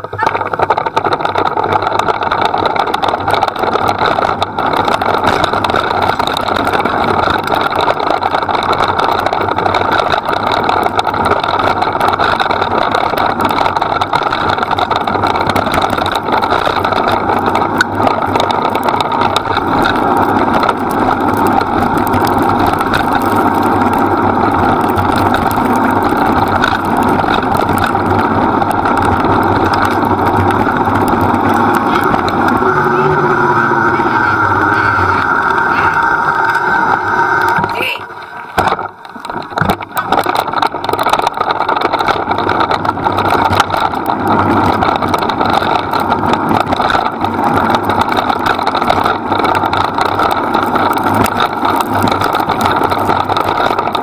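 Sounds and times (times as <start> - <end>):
rig rolling and dogs running: 0.0 - 54.0
wind on microphone: 0.0 - 54.0.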